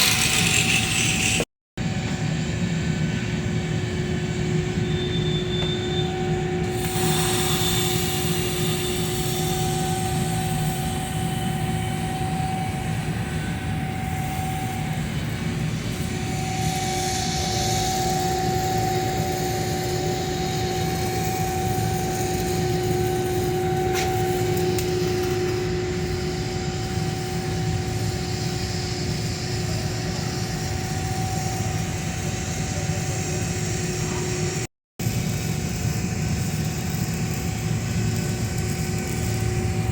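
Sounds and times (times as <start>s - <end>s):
machinery droning: 0.0s - 39.9s.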